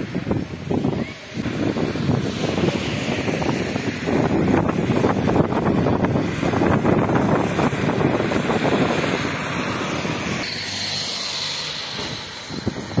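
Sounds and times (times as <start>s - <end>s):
wind buffeting microphone: 0.0s - 10.4s, 11.8s - 13.0s
tyres hissing on wet road: 0.0s - 13.0s
heavy truck driving past: 1.4s - 13.0s.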